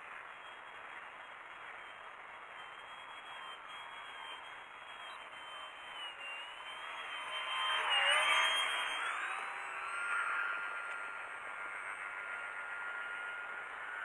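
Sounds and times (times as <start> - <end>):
distant model airplane motor whine: 0.0 - 14.0.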